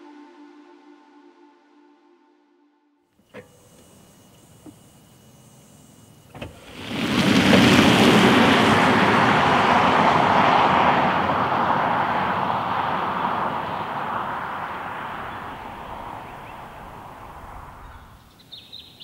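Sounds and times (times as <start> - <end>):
electric car rushing away: 3.3 - 18.8.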